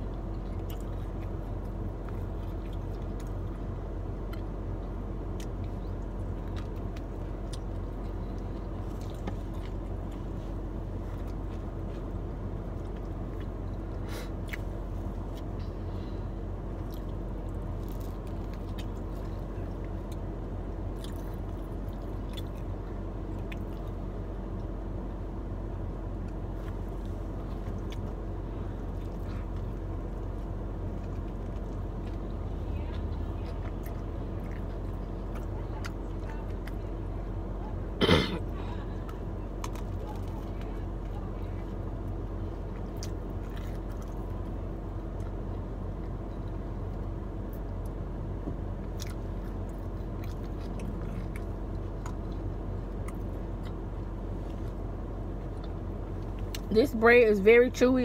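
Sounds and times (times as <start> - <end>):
person chewing: 0.0 - 24.8, 26.2 - 37.6, 38.4 - 48.0, 48.8 - 56.7
car cabin hum: 0.0 - 58.0.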